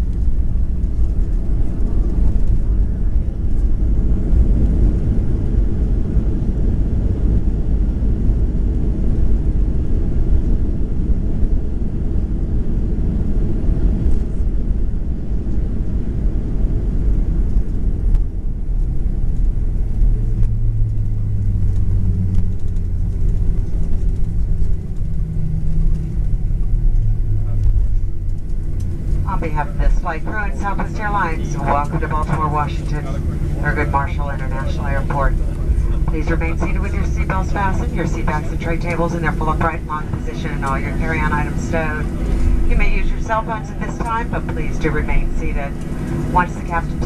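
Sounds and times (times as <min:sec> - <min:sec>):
airplane cabin rumble: 0:00.0 - 0:47.0
low steady hum: 0:00.0 - 0:47.0.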